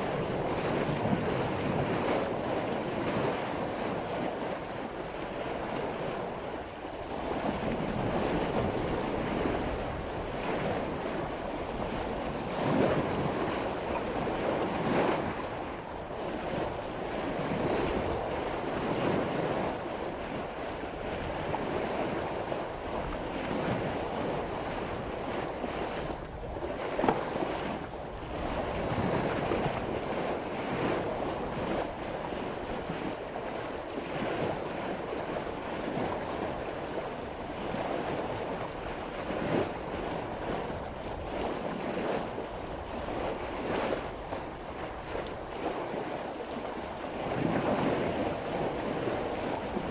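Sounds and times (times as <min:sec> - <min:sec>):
sea water splashing along hull: 0:00.0 - 0:49.9
wind buffeting microphone: 0:00.0 - 0:49.9.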